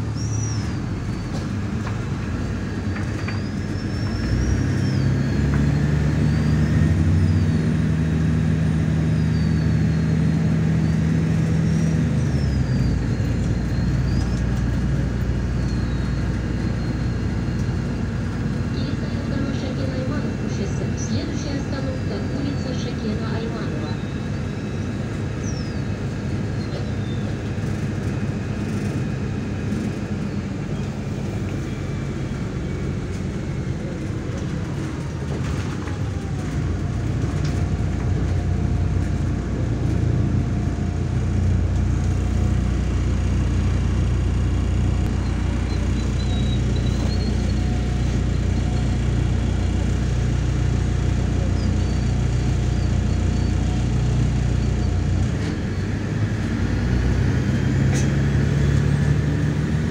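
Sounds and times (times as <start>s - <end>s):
bus engine drone: 0.0s - 59.9s
road noise: 0.0s - 59.9s.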